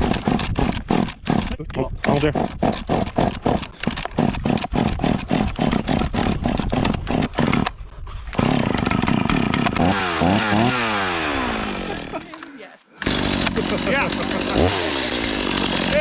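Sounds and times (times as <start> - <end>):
chainsaw sputtering and revving: 0.0 - 16.0.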